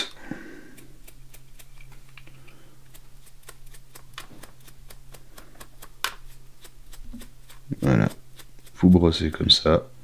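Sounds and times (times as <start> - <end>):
dry brush ticking over painted edges: 0.1 - 9.9.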